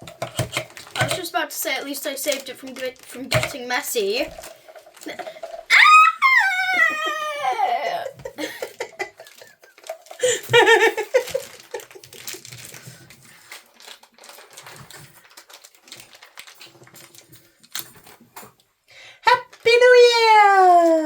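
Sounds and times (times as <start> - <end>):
packaging crinkling: 0.0 - 18.2.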